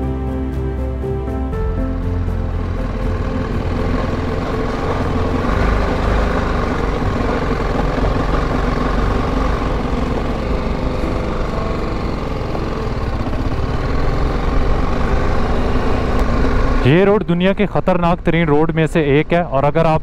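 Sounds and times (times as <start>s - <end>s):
motorcycle engine running: 1.7s - 18.4s.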